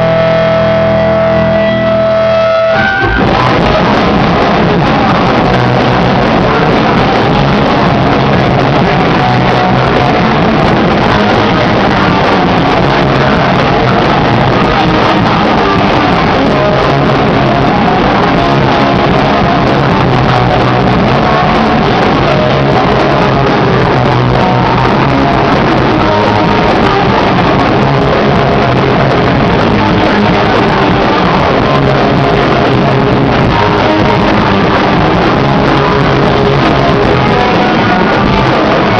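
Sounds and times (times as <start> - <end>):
electric guitar: 0.0 - 38.9
rock band playing live: 0.0 - 38.9.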